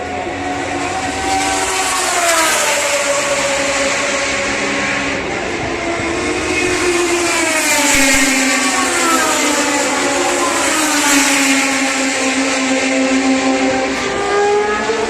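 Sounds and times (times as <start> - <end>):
racing car engines at high revs: 0.2 - 15.0.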